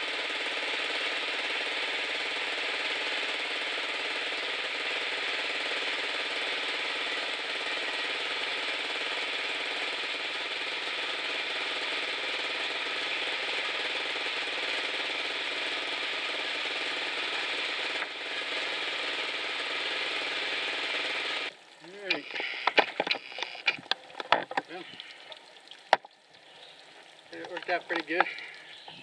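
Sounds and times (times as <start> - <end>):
sawmill blade cutting log: 0.2 - 24.8.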